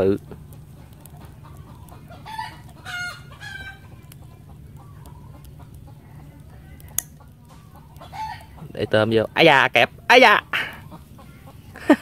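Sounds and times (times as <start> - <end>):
steady low hum: 0.0 - 12.0
bird calling: 0.6 - 12.0.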